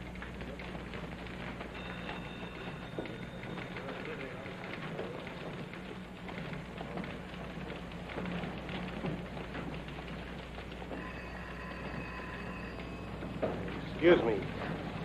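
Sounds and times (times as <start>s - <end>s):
low electrical hum: 0.0s - 15.0s
rain pattering: 0.0s - 15.0s.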